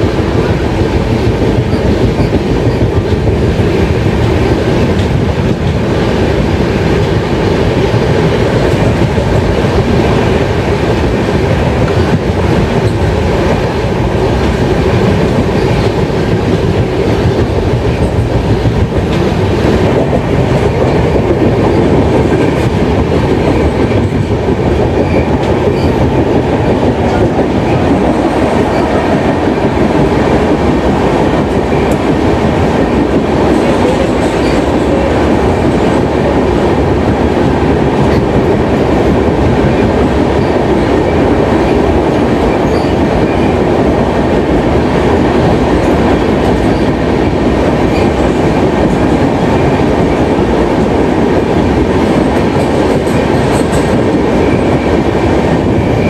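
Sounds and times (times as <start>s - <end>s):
train wheels clattering on track: 0.0s - 56.0s.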